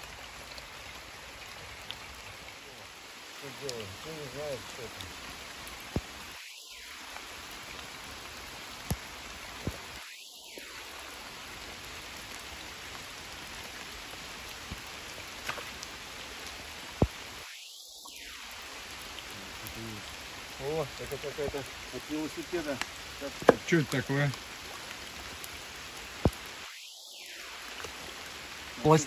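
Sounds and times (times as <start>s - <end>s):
rain falling on water: 0.0s - 29.0s.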